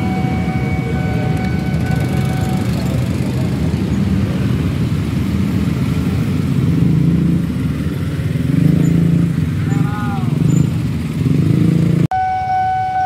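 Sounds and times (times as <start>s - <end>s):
three-wheeler engine passing: 0.0s - 12.6s
motorbike engines idling and pulling away: 0.0s - 13.0s.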